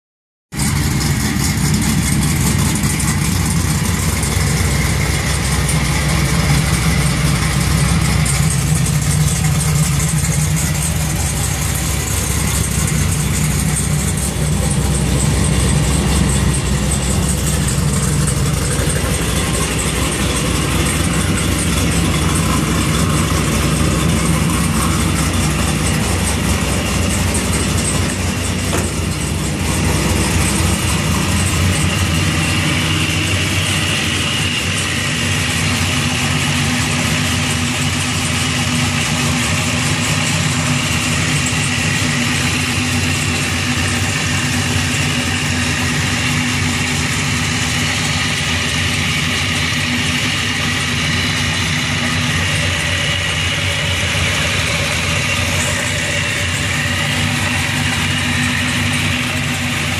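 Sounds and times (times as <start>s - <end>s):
cammed car engine idling: 0.5s - 59.9s.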